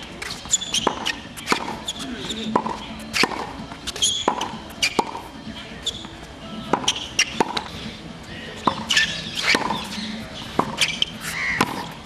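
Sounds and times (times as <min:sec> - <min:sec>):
tennis ball hits and bounces: 0:00.0 - 0:07.9, 0:08.6 - 0:12.0
shoes squeaking on court: 0:00.0 - 0:12.0.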